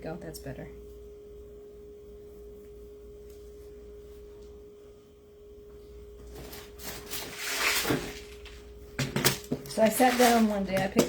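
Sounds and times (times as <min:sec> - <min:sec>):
faint electrical whine: 0:00.0 - 0:11.0
low background hum: 0:00.0 - 0:11.0.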